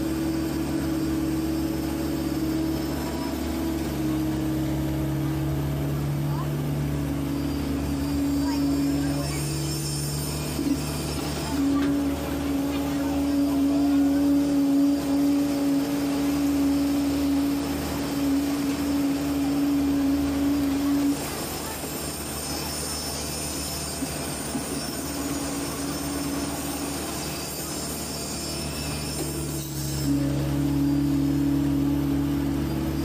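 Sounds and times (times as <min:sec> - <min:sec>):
diesel engines running: 0:00.0 - 0:33.0
high steady whine: 0:00.0 - 0:33.0
strong steady hum: 0:00.0 - 0:33.0.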